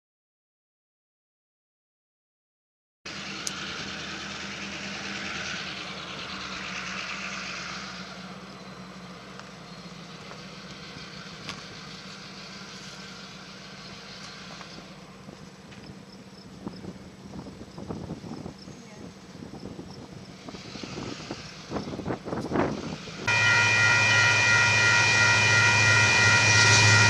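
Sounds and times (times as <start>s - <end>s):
vehicle engine hum: 3.1s - 27.0s.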